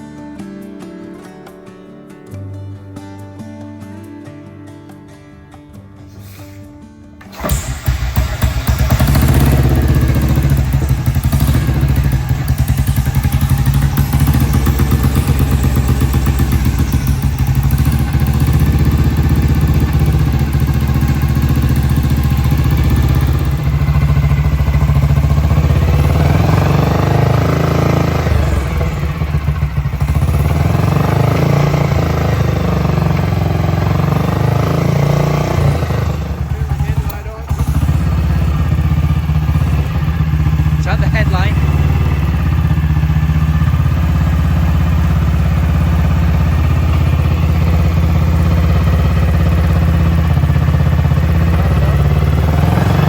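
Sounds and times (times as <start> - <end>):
motorcycle engine running: 7.2 - 53.0.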